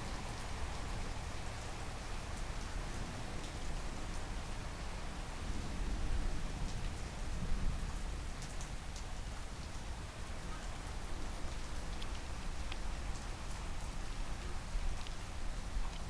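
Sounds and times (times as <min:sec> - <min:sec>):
sharp ticks of raindrops: 0:00.0 - 0:16.0
steady rain hiss: 0:00.0 - 0:16.0.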